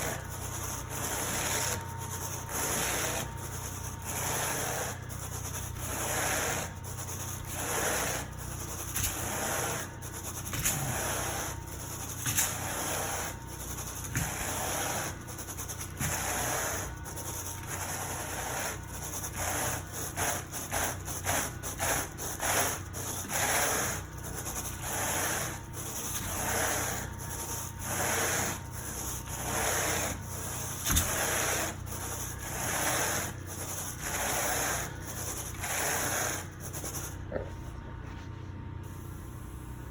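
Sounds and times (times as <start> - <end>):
carpet rake scratching carpet: 0.0 - 38.2.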